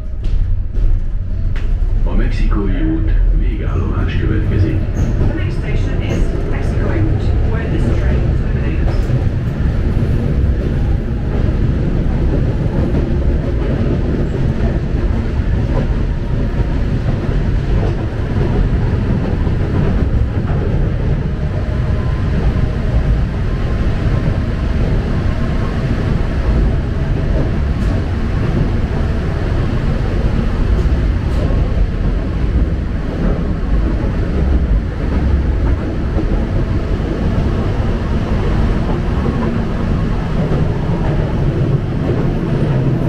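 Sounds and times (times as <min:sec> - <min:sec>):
metro wheels rumbling on rail: 0:00.0 - 0:43.0.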